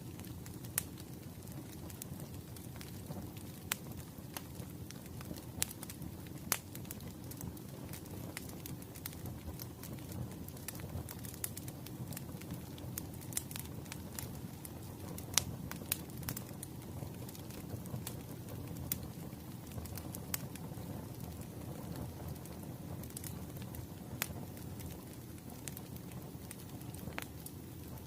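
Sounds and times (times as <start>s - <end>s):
fire crackling and popping: 0.0s - 28.0s
low rumble of flames: 0.0s - 28.0s.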